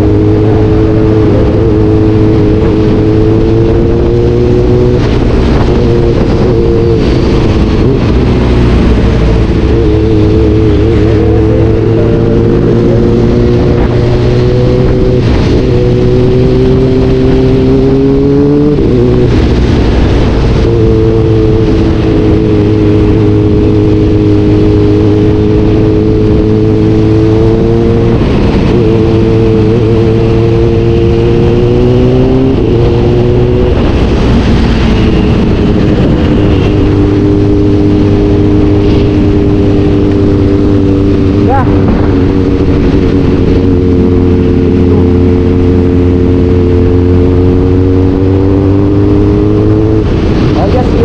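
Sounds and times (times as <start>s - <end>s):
vehicle engine under load: 0.0s - 51.0s.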